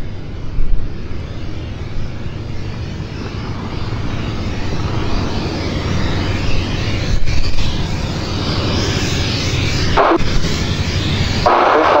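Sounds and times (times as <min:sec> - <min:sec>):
light aircraft engine humming: 0:00.0 - 0:12.0.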